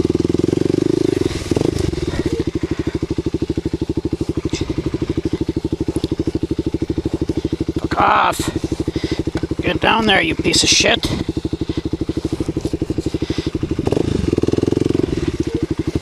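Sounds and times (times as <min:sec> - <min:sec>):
motorcycle engine revving and idling: 0:00.0 - 0:16.0.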